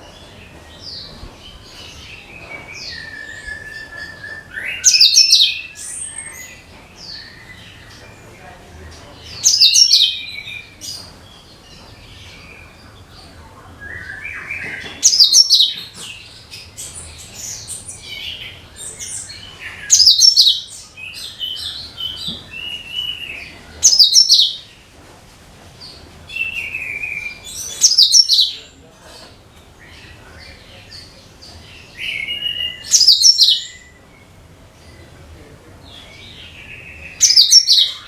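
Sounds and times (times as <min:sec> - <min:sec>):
bird chirps and warbles: 0:00.0 - 0:24.9, 0:25.8 - 0:38.0
bird singing rapid phrase: 0:00.1 - 0:11.5, 0:13.9 - 0:24.8, 0:26.4 - 0:28.7, 0:29.8 - 0:35.1, 0:35.9 - 0:38.0.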